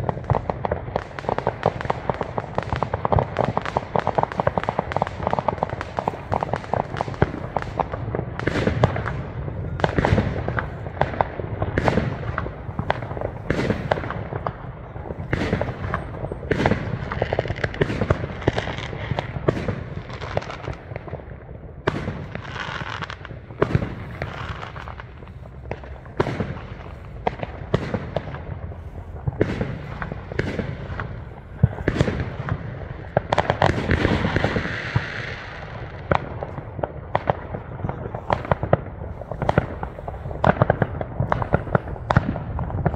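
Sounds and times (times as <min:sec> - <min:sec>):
fireworks bangs and pops: 0:00.0 - 0:42.9
fireworks hissing crackle: 0:00.0 - 0:42.9.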